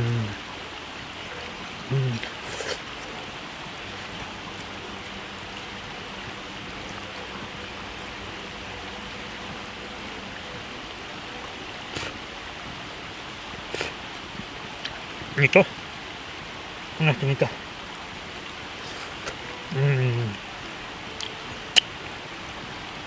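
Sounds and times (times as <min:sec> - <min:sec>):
river rushing over rapids: 0:00.0 - 0:23.0.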